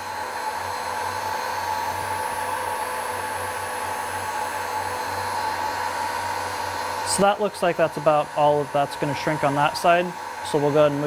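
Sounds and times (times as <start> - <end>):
heat gun fan blowing: 0.0 - 11.0.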